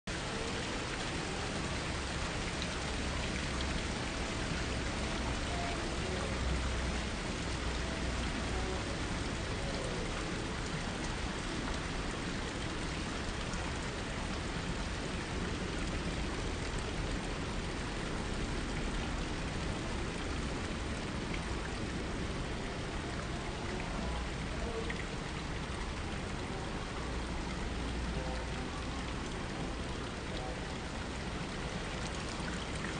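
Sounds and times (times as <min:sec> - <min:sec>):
water splashing from fountains: 0:00.1 - 0:32.9.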